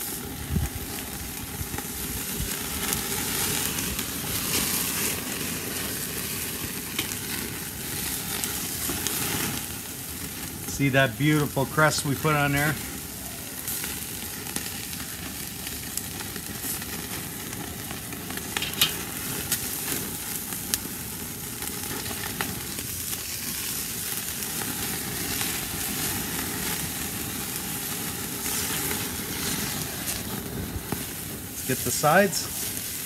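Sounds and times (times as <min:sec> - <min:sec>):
charcoal popping and crackling: 0:00.0 - 0:33.0
meat sizzling on a grill: 0:00.0 - 0:33.0.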